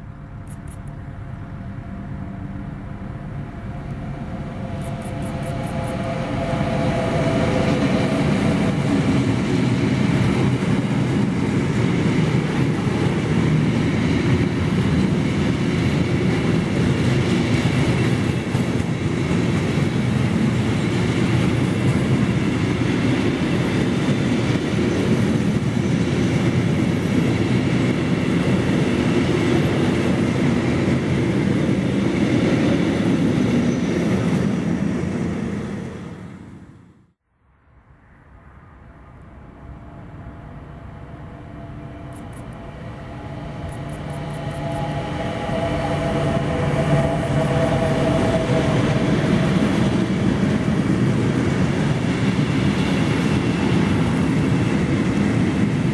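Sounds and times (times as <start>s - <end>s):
train wheels rumbling on rails: 0.0s - 36.9s, 39.2s - 55.9s
locomotive hum: 0.0s - 37.1s, 38.8s - 55.9s.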